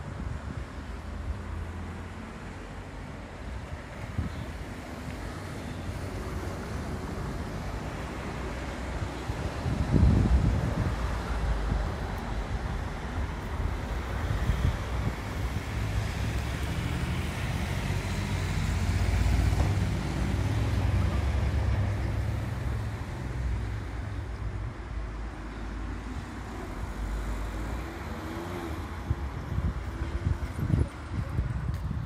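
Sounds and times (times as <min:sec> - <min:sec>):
wind rumble on microphone: 0:00.0 - 0:01.9, 0:03.3 - 0:08.0, 0:08.6 - 0:25.3, 0:26.0 - 0:32.0.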